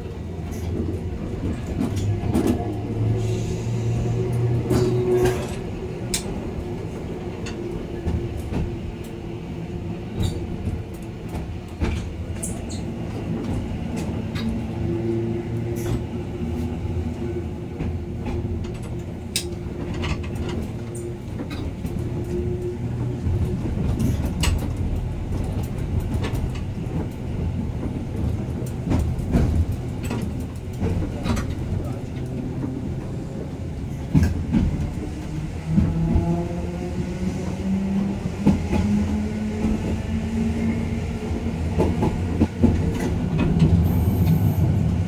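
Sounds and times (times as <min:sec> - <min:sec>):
tram motor hum: 0:00.0 - 0:45.0
tram rumbling on track: 0:00.0 - 0:45.0.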